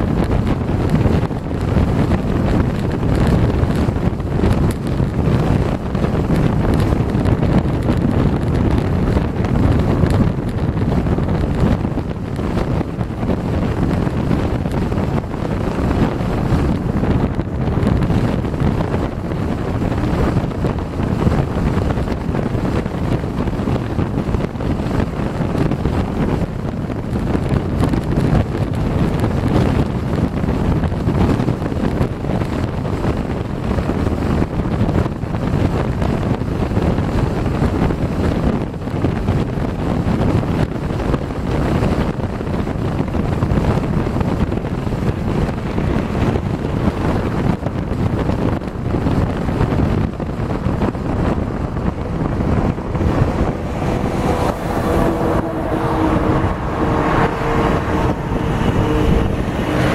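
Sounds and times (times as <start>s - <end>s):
vehicle driving rumble: 0.0s - 59.9s
wind buffeting microphone: 0.0s - 59.9s.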